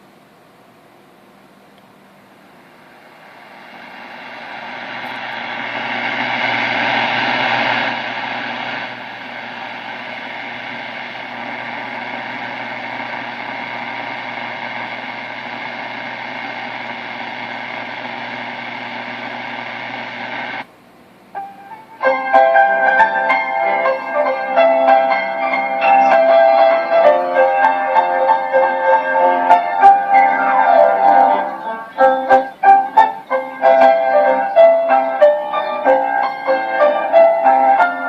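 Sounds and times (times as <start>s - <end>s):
mains hum: 0.0s - 38.0s
radio static hiss: 2.1s - 20.7s, 21.3s - 38.0s.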